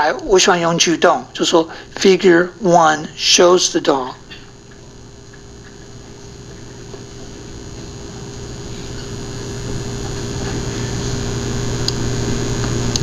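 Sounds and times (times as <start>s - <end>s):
room hum with hiss: 0.0s - 13.0s.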